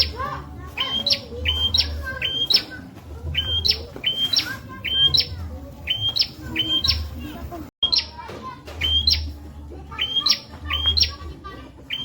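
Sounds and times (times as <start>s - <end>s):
bird chirping: 0.0s - 8.2s, 8.8s - 9.4s, 10.0s - 11.2s.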